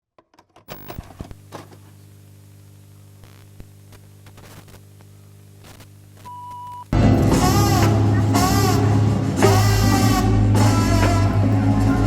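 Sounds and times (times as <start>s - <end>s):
steady low hum: 0.7s - 12.0s.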